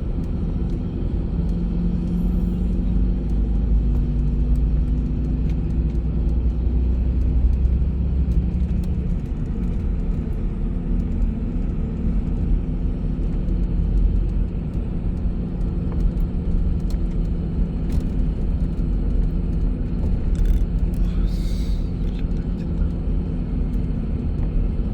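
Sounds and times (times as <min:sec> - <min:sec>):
bus engine hum: 0:00.0 - 0:24.9
road noise: 0:00.0 - 0:24.9.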